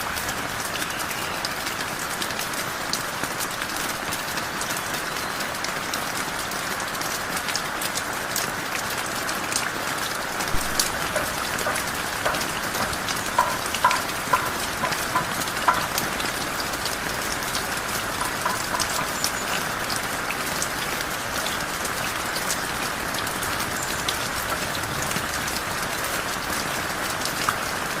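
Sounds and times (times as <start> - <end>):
heavy rain falling: 0.0 - 28.0
sharp raindrops striking nearby: 0.0 - 28.0.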